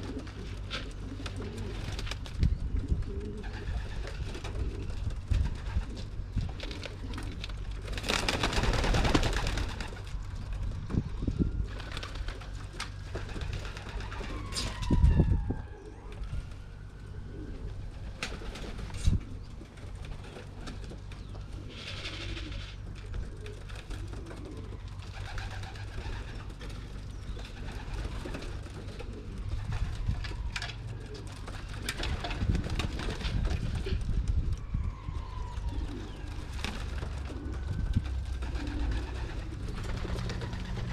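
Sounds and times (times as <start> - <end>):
pigeons cooing: 0.0 - 40.9
steady low rumble: 0.0 - 40.9.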